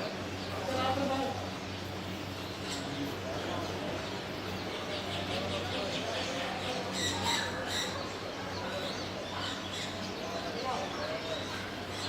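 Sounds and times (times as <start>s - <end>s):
birds chirping: 0.0s - 12.0s
birds squawking: 0.0s - 12.0s
murmur of voices: 0.0s - 12.0s.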